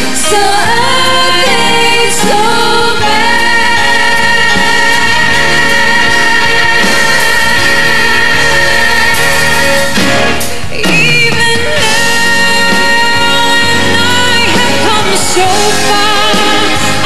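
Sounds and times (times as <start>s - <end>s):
live pop ballad with band: 0.0s - 17.0s
woman singing over soft accompaniment: 0.0s - 17.0s.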